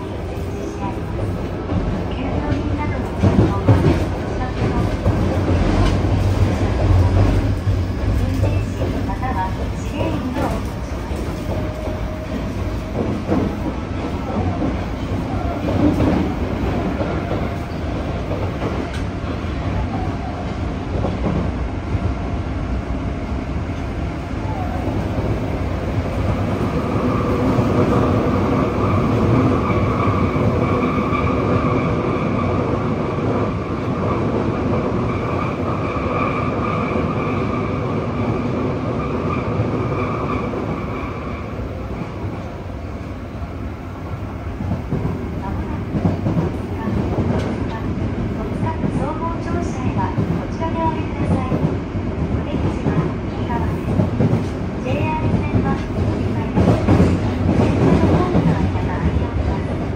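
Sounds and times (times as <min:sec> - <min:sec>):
rumble of train wheels on rail: 0:00.0 - 0:59.9.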